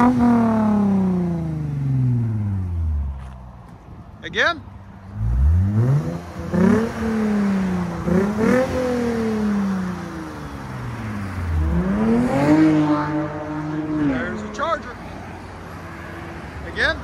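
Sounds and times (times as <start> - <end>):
car engine revving: 0.0 - 3.2, 5.0 - 17.0.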